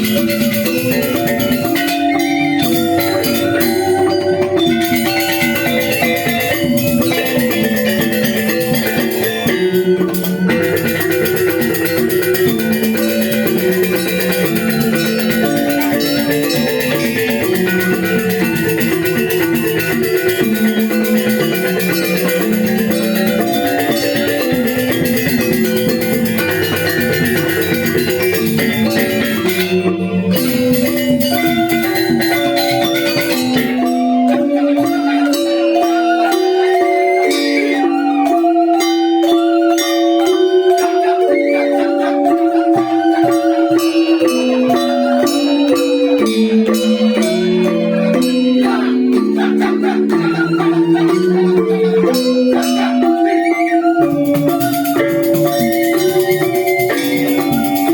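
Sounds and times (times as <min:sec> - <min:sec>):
gamelan ensemble playing: 0:00.0 - 0:57.9.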